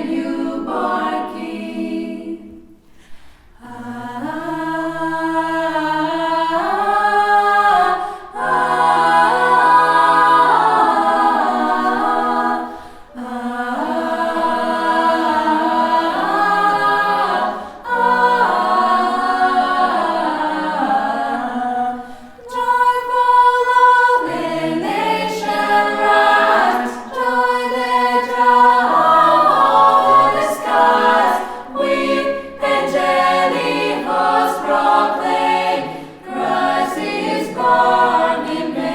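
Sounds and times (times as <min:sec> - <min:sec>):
unaccompanied choir singing: 0:00.0 - 0:02.9, 0:03.6 - 0:38.9.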